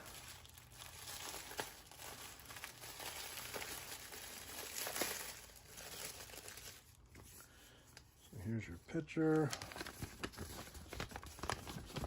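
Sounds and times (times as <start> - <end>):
packaging rustling and crinkling: 0.0 - 8.2, 8.9 - 12.0.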